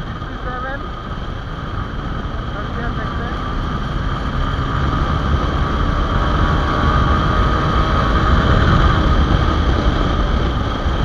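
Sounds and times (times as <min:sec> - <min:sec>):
motorcycle engine accelerating: 0:00.0 - 0:11.0
wind rush over microphone: 0:00.0 - 0:11.0.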